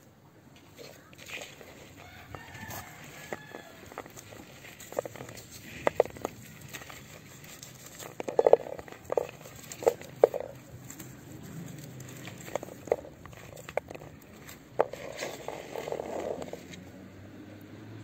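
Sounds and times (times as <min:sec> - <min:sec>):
branches rustling and clicking: 0:00.5 - 0:17.0.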